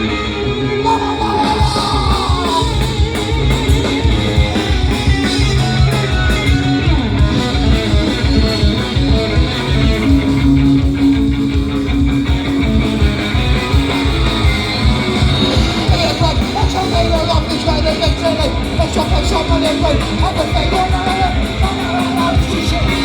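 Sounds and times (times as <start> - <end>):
punk rock band playing live: 0.0 - 23.0.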